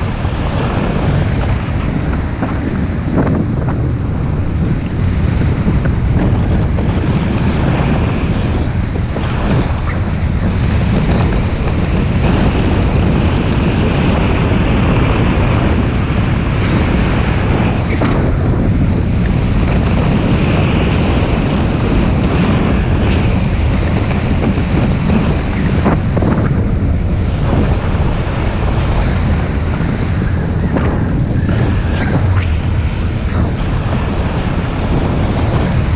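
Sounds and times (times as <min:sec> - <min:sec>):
motorbike running: 0:00.0 - 0:35.9
wind on microphone: 0:00.0 - 0:35.9.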